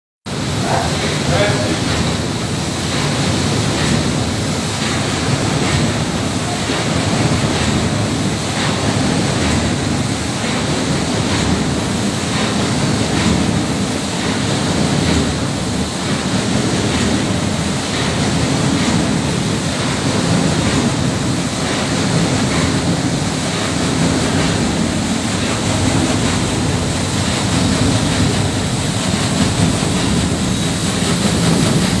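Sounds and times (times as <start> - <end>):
paddle wheels churning water: 0.3 - 32.0
steam engine running: 0.3 - 32.0.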